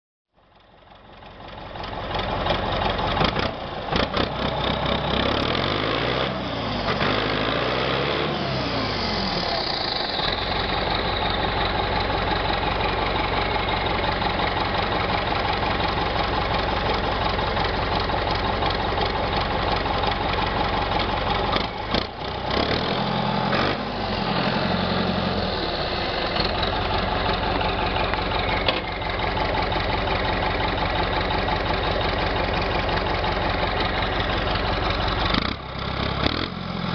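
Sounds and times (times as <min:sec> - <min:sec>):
tractor diesel engine revving: 0:01.4 - 0:36.9.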